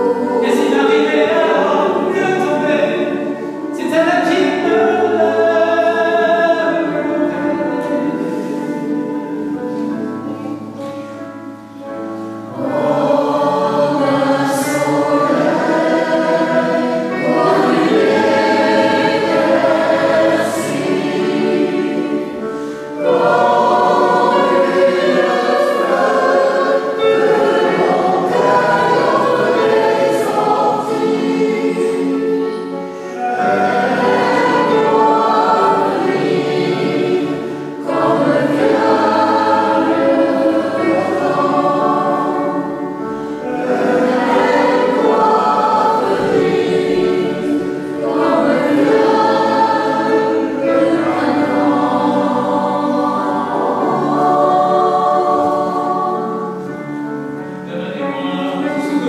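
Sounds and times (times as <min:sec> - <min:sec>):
mixed choir singing: 0:00.0 - 0:59.0
piano accompaniment: 0:00.0 - 0:59.0.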